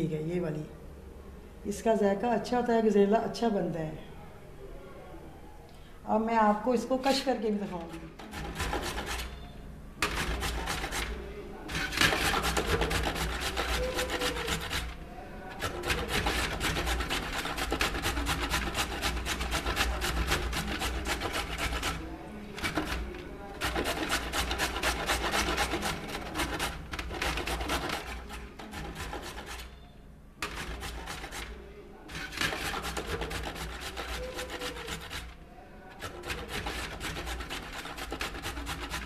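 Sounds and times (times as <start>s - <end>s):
carrot rasping on metal grater: 7.0s - 39.0s.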